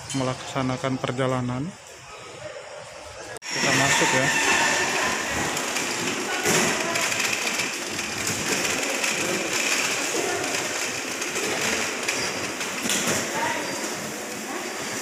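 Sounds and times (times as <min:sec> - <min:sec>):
indoor hall background hiss: 0:00.0 - 0:15.0.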